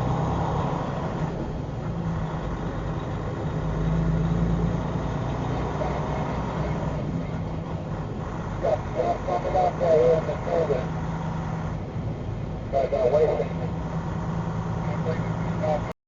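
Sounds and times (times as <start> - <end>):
car engine hum: 0.0 - 15.9
road noise: 0.0 - 16.0.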